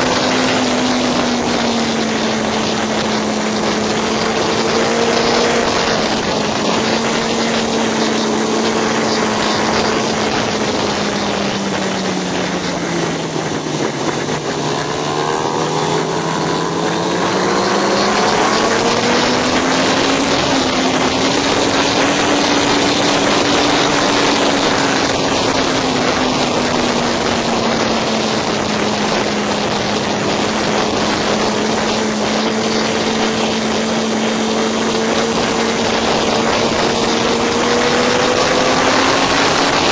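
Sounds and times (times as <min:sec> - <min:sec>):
motorcycle engine revving high: 0:00.0 - 0:39.9
wind rush on microphone: 0:00.0 - 0:39.9.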